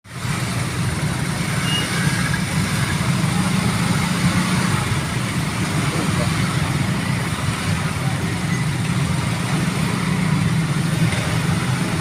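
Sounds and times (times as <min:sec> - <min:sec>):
vehicle engines idling: 0:00.1 - 0:12.0.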